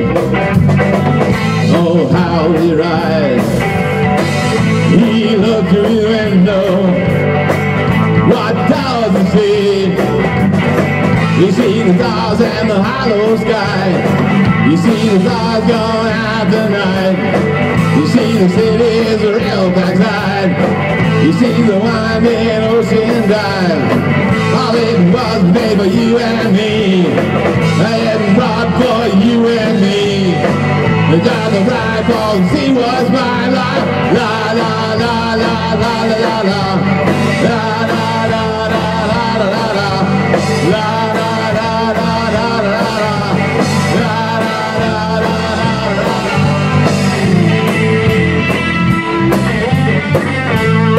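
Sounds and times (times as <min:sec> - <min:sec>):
drum kit: 0:00.0 - 0:50.9
electric bass: 0:00.0 - 0:50.9
electric guitar: 0:00.0 - 0:50.9.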